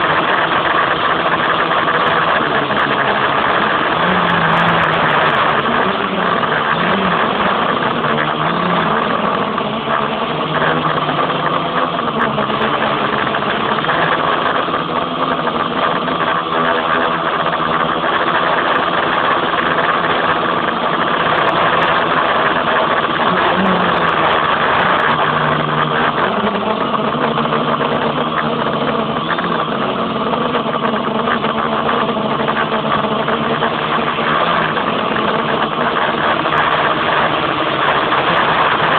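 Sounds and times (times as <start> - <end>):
quadcopter propellers whirring: 0.0 - 38.9.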